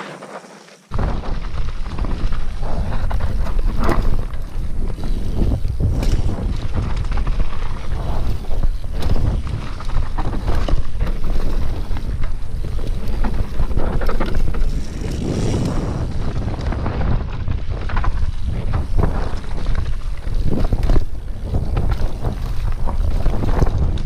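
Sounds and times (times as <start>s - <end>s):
bike rattling on rough trail: 0.0s - 24.0s
wind buffeting microphone: 0.9s - 24.0s.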